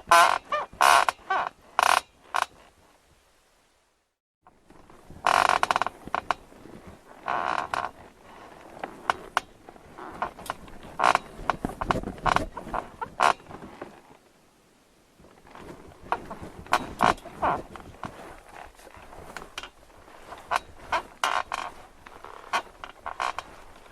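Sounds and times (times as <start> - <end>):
bed frame creaking: 0.0 - 2.7, 4.5 - 14.1, 15.2 - 23.9.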